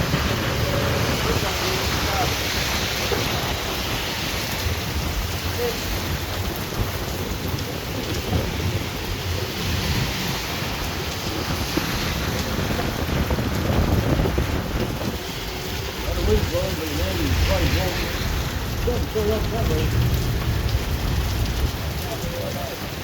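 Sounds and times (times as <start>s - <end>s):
low rumble: 0.0s - 22.2s
heavy rain pouring: 0.0s - 23.0s.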